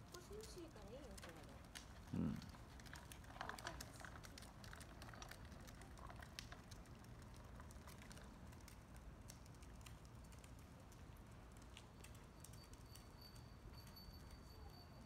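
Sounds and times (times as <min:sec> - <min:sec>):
wagon wheels clicking and rattling: 0:00.0 - 0:15.0.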